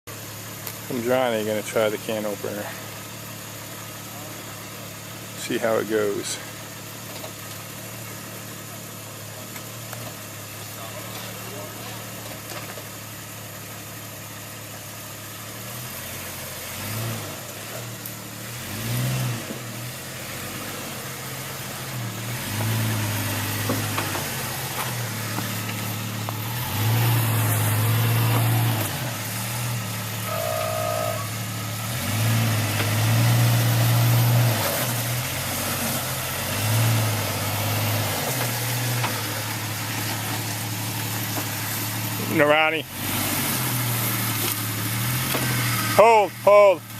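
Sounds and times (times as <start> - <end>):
truck engine idling and revving: 0.0 - 46.9.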